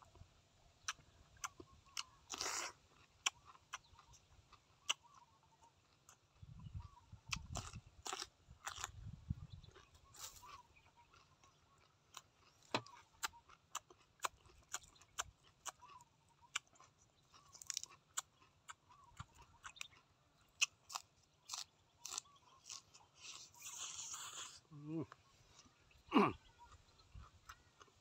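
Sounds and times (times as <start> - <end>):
chewing and crunching: 0.0 - 28.0.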